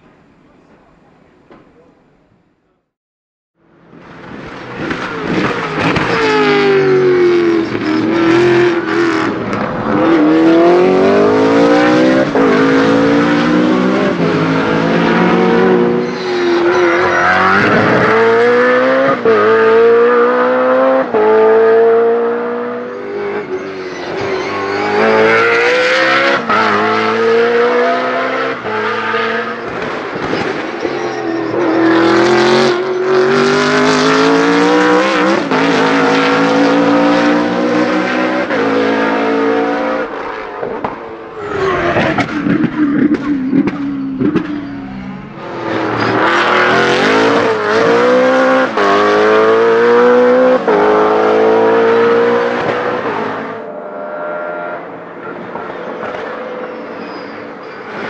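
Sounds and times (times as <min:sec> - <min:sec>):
race car engine revving: 0:04.6 - 0:56.8.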